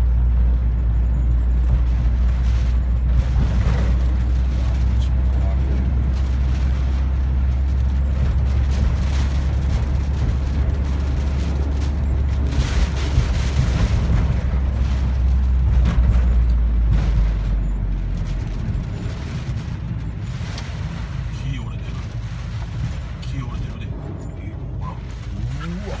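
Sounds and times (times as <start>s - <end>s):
strong wind buffeting microphone: 1.6s - 26.0s.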